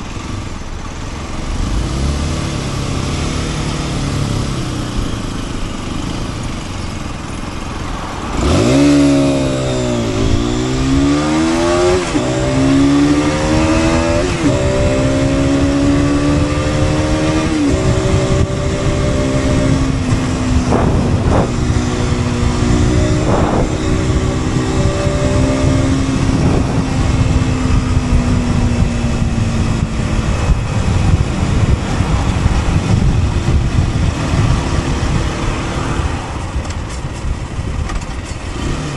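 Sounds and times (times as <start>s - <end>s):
motorcycle engine accelerating: 0.0s - 38.9s
wind and road noise: 0.0s - 38.9s.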